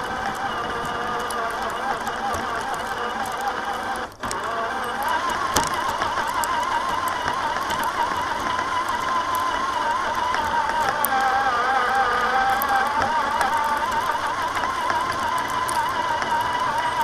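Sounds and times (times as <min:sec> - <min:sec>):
electric motor and gearbox whining: 0:00.0 - 0:17.0.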